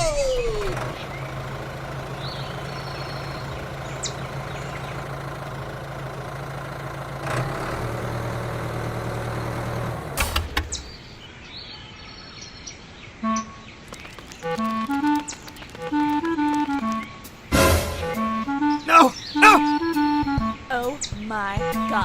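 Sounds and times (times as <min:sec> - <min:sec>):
engine idling: 0:00.0 - 0:11.2, 0:13.9 - 0:20.6.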